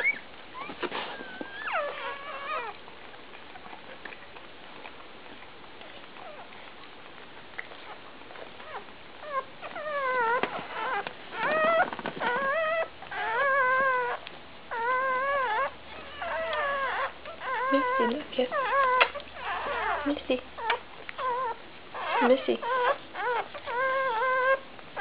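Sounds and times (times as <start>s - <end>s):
puppy crying: 0.0s - 2.8s, 7.8s - 25.0s.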